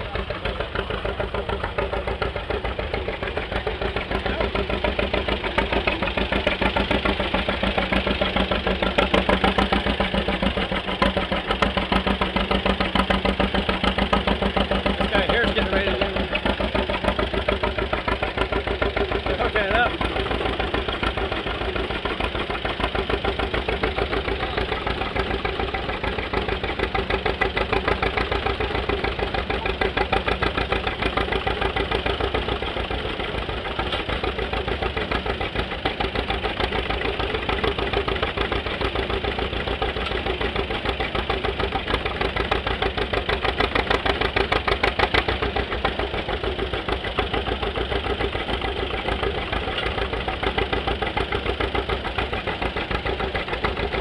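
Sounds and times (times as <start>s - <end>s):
old farm engine knocking: 0.0s - 54.0s.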